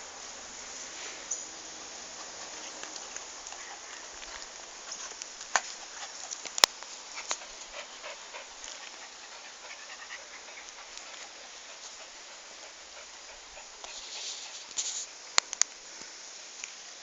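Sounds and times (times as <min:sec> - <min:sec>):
steady hiss: 0:00.0 - 0:17.0
dogs scuffling: 0:00.6 - 0:15.1.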